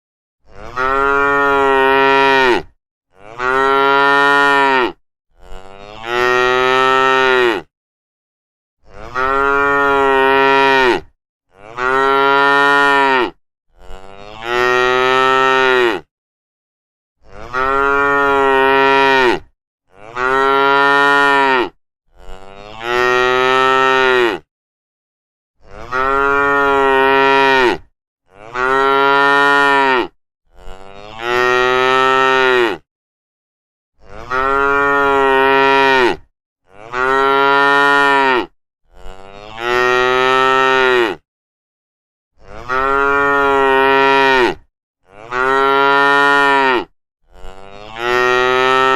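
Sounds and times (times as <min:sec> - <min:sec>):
cows mooing: 0:00.5 - 0:07.7, 0:08.9 - 0:16.1, 0:17.3 - 0:24.5, 0:25.8 - 0:32.8, 0:34.0 - 0:41.2, 0:42.4 - 0:48.9.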